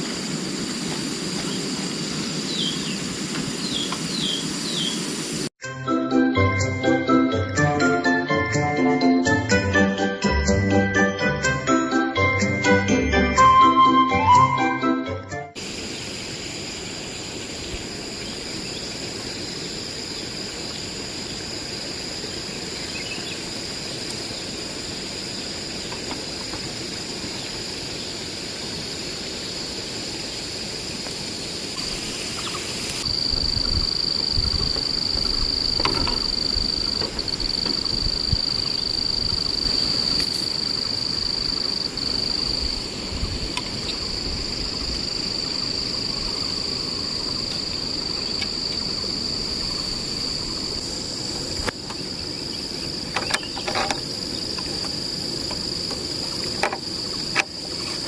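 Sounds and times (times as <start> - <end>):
insects droning: 0.0 - 5.5, 15.6 - 58.0
low rushing hiss: 0.0 - 5.5, 15.6 - 58.0.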